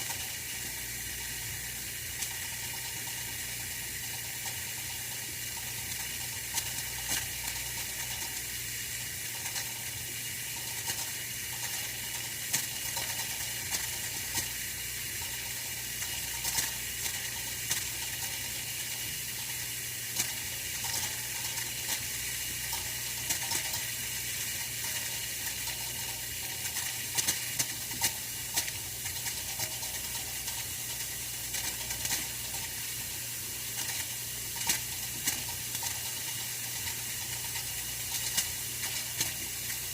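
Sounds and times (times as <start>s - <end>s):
heater hiss and hum: 0.0s - 39.9s
small crackles and ticks: 0.0s - 39.9s.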